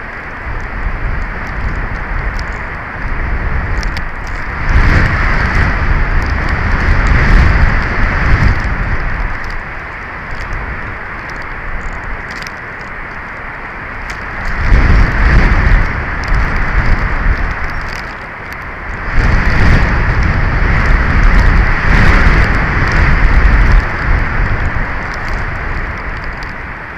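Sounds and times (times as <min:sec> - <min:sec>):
faint ticks: 0:00.0 - 0:26.8
wind buffeting microphone: 0:00.0 - 0:26.9.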